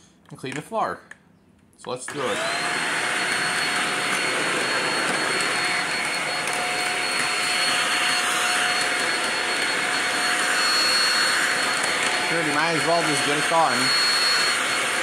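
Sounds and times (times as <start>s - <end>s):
vacuum cleaner running: 2.1s - 15.0s.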